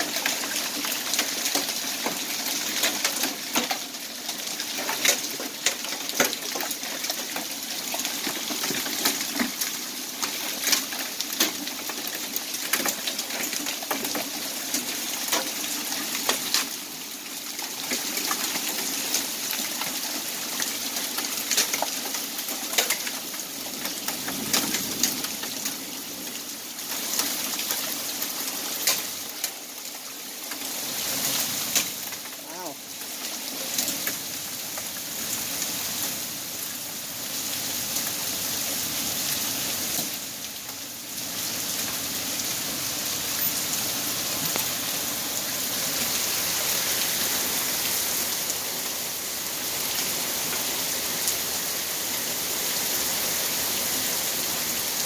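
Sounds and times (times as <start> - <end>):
hailstones clicking: 0.0 - 36.2, 42.6 - 51.6
hail falling on concrete: 0.0 - 55.0.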